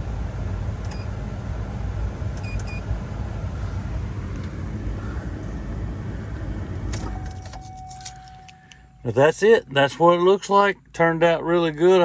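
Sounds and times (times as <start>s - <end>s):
low engine rumble in cab: 0.0s - 12.0s.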